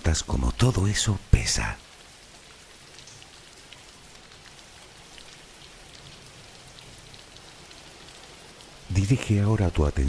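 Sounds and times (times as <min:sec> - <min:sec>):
soft rain: 0:00.0 - 0:10.0.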